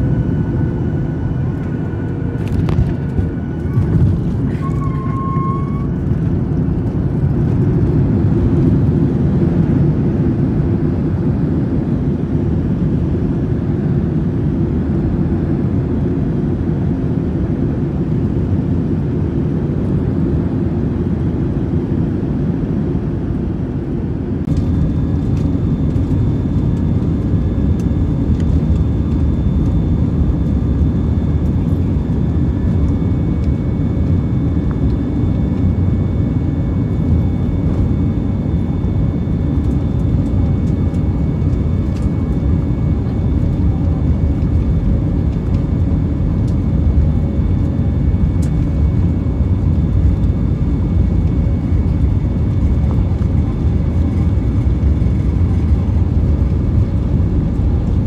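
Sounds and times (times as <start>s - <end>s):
jet cabin rumble on runway: 0.0s - 58.0s
jet engine high whine: 0.0s - 58.0s.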